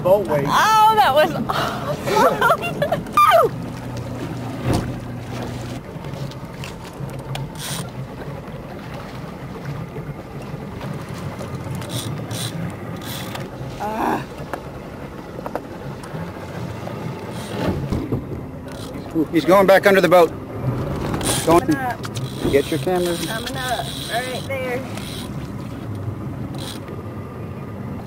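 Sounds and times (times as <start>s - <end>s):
boat motor idling: 0.0s - 28.0s.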